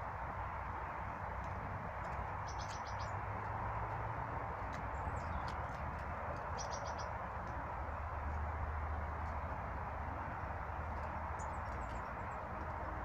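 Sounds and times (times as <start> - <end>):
steady rushing background noise: 0.0 - 13.0
small birds chirping: 1.2 - 13.0.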